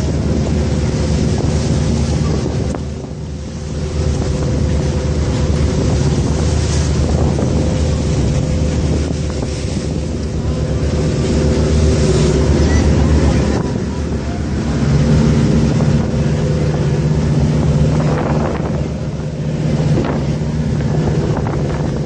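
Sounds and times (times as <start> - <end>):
boat engine droning: 0.0 - 22.0
water rushing past hull: 0.0 - 22.0
wind buffeting microphone: 0.0 - 22.0.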